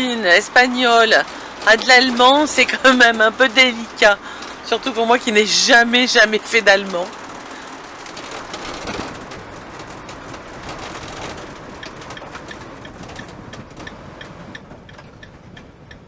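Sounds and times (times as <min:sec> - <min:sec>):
engine and road noise: 0:00.0 - 0:16.0
interior rattles and ticks: 0:00.0 - 0:16.0.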